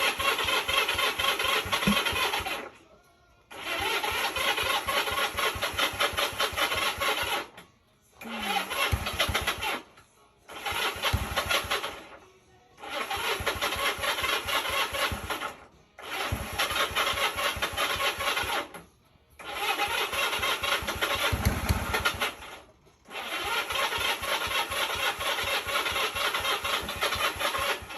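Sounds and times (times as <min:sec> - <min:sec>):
motorcycle starter cranking engine: 0:00.0 - 0:27.9.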